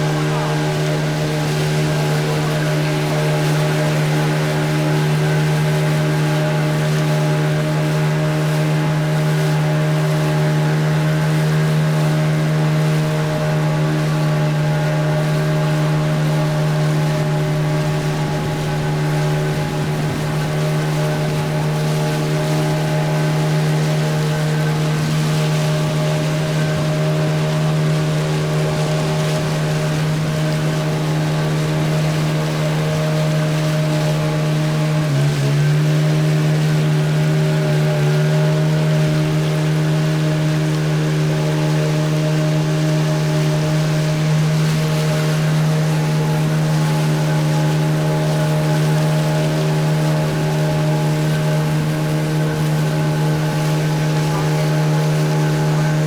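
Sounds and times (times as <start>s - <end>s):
motorboat engine droning: 0.0s - 56.0s
wind and water hiss: 0.0s - 56.0s.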